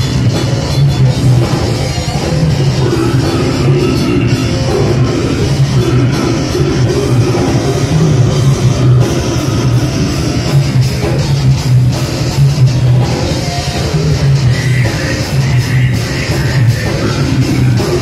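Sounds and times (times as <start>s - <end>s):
fast pounding drums: 0.0s - 18.0s
heavy electric guitars: 0.0s - 18.0s.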